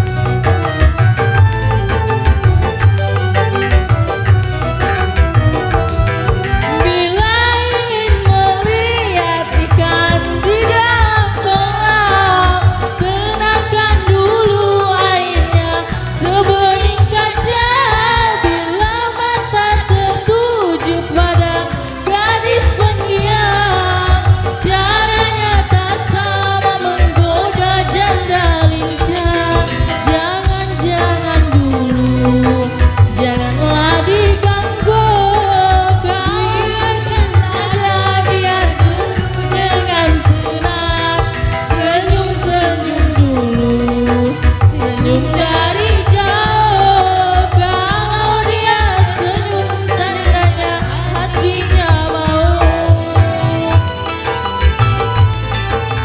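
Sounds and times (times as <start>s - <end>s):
drum and bass beat: 0.0s - 56.0s.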